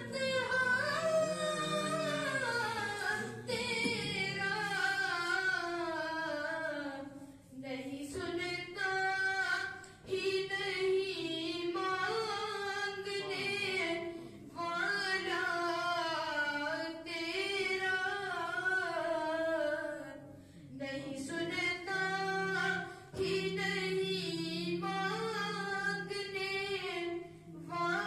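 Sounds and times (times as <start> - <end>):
boy singing unaccompanied: 0.0 - 20.2, 20.8 - 28.0.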